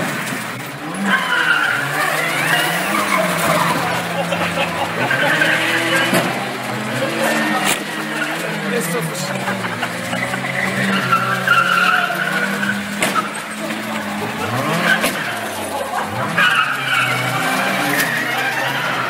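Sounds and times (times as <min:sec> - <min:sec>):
car engines revving: 0:00.0 - 0:19.0
cars bumping knocks: 0:00.0 - 0:19.0
tyres skidding: 0:00.0 - 0:19.0.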